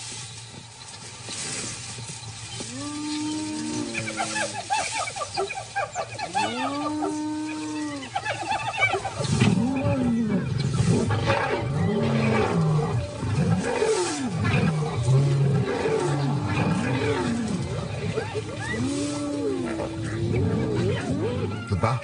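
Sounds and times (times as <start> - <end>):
hyenas calling and chattering: 2.5 - 22.0
lions growling and snarling: 2.7 - 22.0.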